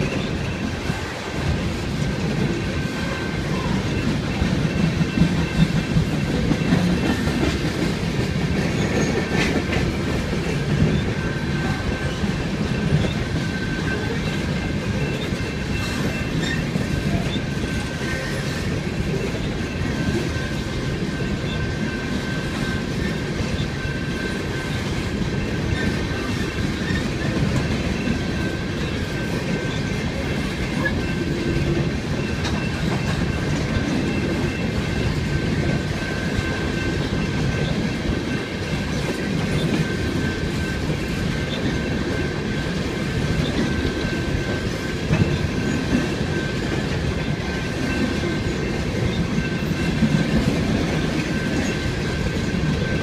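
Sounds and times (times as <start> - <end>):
freight train rumbling past: 0.0 - 53.0
wheels clacking over rail joints: 0.0 - 53.0
high wheel squeal: 10.1 - 53.0.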